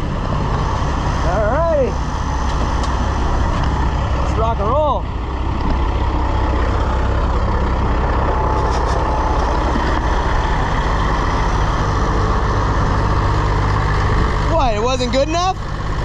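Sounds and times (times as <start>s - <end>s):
engine hum: 0.0s - 16.0s
rushing blower noise: 0.0s - 16.0s.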